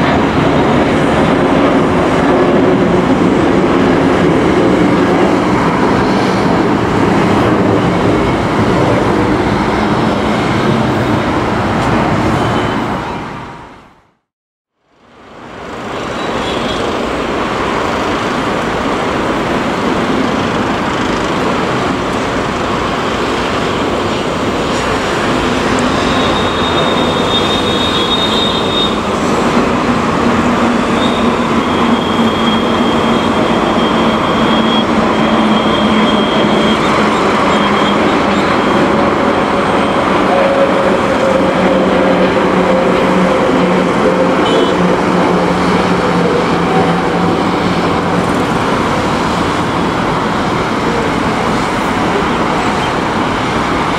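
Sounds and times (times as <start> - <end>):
jet engines roaring: 0.0 - 12.7, 15.8 - 53.9.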